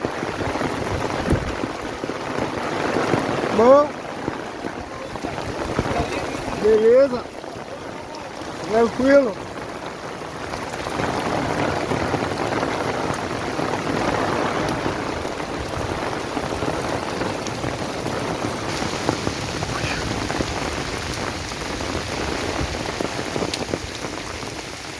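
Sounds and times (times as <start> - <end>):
heavy rain pouring and splashing: 0.0 - 24.9.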